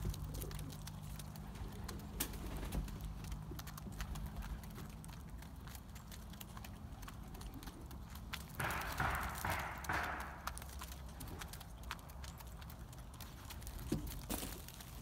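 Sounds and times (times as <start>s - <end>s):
pigeons pecking seed: 0.0s - 15.0s.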